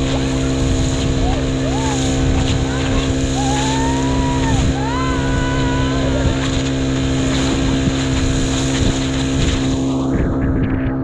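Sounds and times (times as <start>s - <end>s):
motorboat engine running: 0.0s - 11.0s
rush of wind and water: 0.0s - 11.0s.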